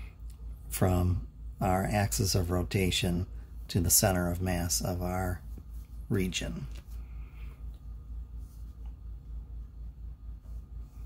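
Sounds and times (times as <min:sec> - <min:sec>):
low pulsing hum: 0:00.0 - 0:11.0.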